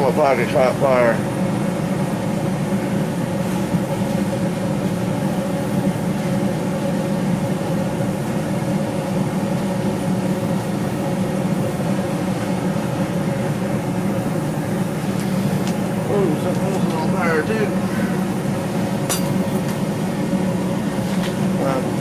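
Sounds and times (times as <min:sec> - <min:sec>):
forging machinery drone: 0:00.0 - 0:22.0.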